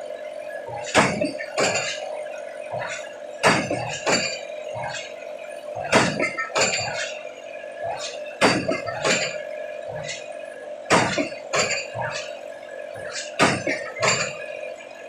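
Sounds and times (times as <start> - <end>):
steady machine hum: 0.0 - 15.0
pile hammer clanking impacts: 0.6 - 15.0.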